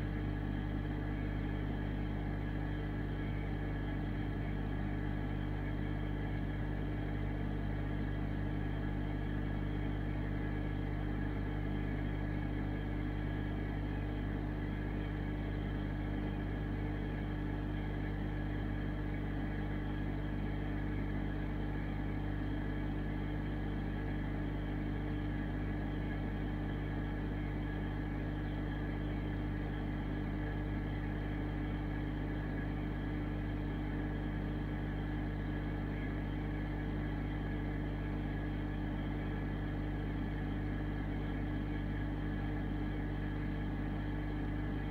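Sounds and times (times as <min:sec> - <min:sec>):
aquarium pump humming: 0:00.0 - 0:44.9.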